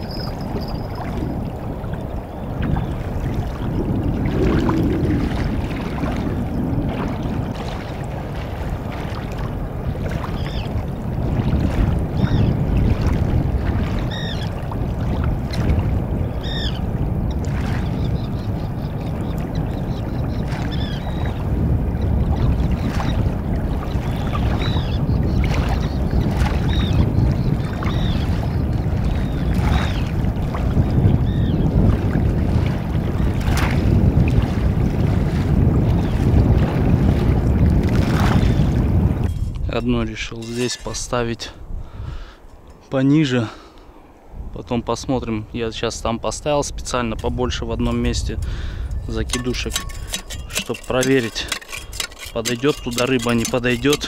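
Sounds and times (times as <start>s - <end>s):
water lapping in shallows: 0.0s - 44.6s, 45.2s - 54.0s
wind buffeting microphone: 0.0s - 54.0s.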